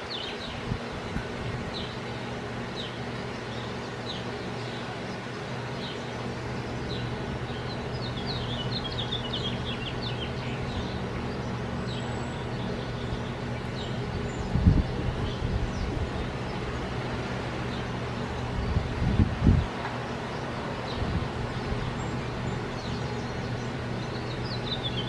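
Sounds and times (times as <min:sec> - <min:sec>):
low background hum: 0:00.0 - 0:25.0
songbirds chirping: 0:00.0 - 0:25.0.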